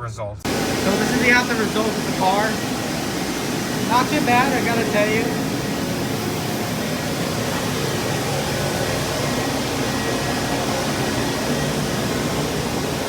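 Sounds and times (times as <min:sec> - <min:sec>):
air blowing steadily: 0:00.5 - 0:13.0.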